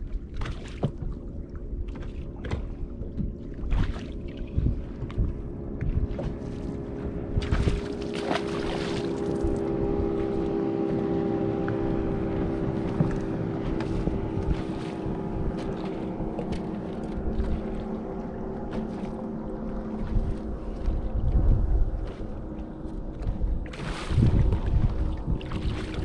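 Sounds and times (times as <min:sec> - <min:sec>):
trolling motor electric hum: 0:00.0 - 0:26.0
water lapping against hull: 0:00.0 - 0:26.0
wind on microphone: 0:02.3 - 0:26.0.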